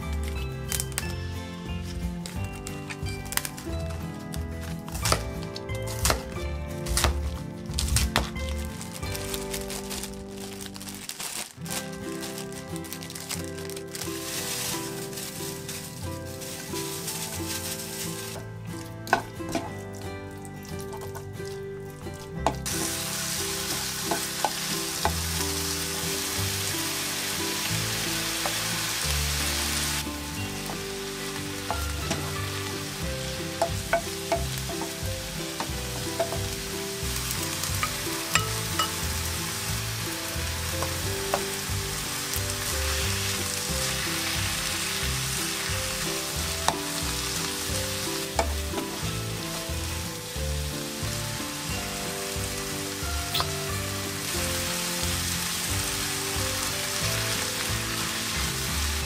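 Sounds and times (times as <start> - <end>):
food sizzling in a frying pan: 7.9 - 20.0, 22.5 - 59.0.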